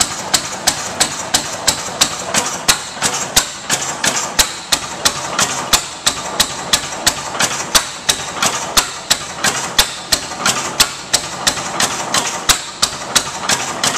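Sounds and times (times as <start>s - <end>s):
hit-and-miss engine clattering: 0.0s - 13.9s.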